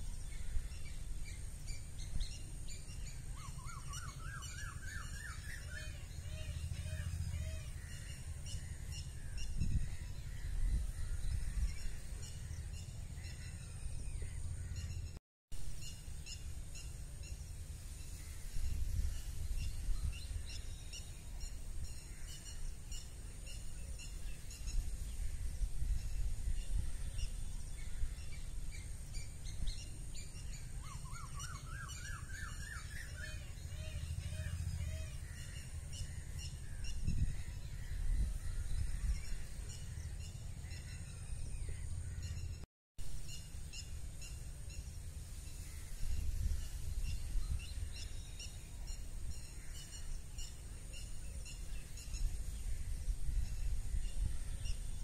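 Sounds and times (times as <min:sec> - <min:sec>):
songbirds chirping and calling: 0:00.0 - 0:55.0
wind rumble on microphone: 0:00.0 - 0:55.0.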